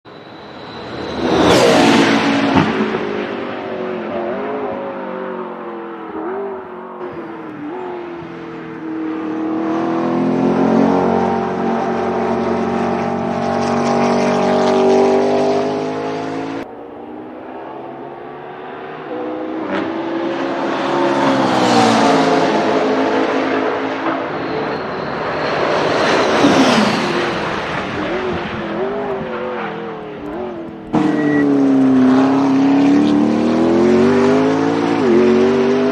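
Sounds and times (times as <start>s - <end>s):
race car engine revving: 6.1s - 35.9s.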